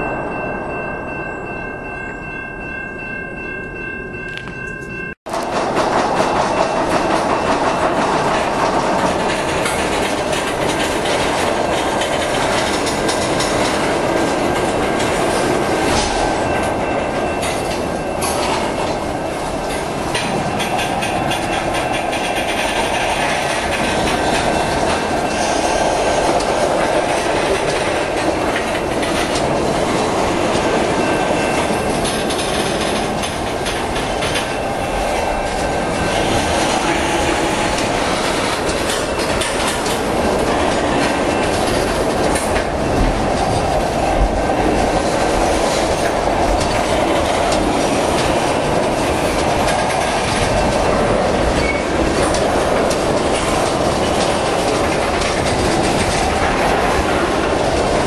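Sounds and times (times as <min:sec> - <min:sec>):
train wheels clacking: 0:00.0 - 0:58.0.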